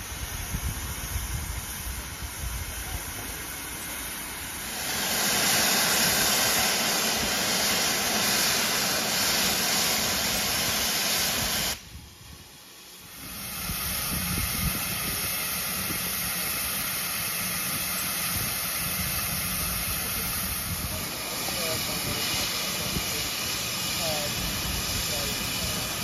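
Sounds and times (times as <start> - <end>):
steam locomotive hissing steam: 0.0 - 26.0.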